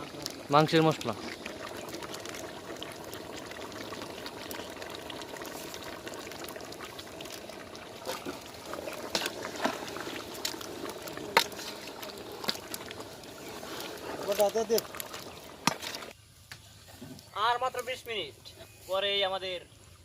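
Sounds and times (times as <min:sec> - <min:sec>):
food sizzling in oil: 0:00.0 - 0:16.2.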